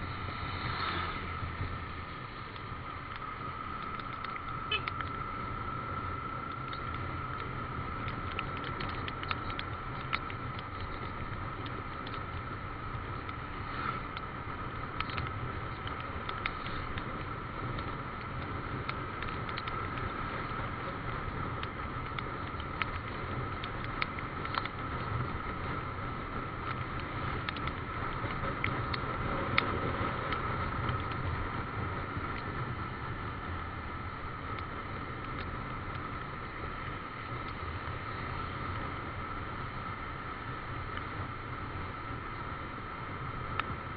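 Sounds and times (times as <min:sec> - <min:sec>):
motorcycle engine and road rumble: 0:00.0 - 0:43.9
raindrops hitting microphone: 0:00.0 - 0:43.9.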